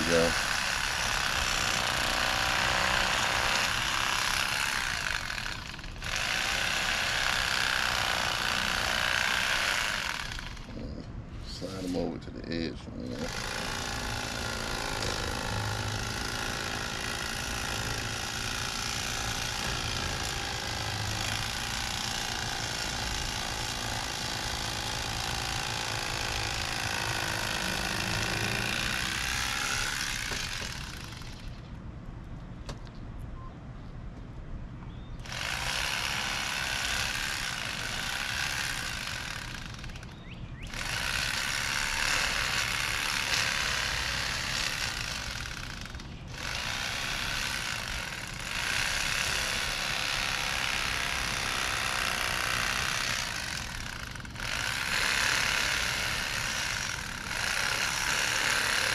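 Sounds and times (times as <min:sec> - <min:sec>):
electric fillet knife buzzing: 0:00.0 - 0:10.8, 0:13.2 - 0:31.5, 0:35.2 - 0:40.0, 0:40.6 - 0:58.9.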